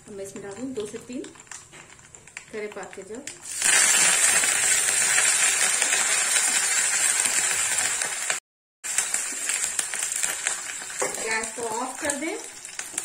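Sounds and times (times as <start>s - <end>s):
leaves and chillies sizzling in hot oil: 0.0s - 13.0s.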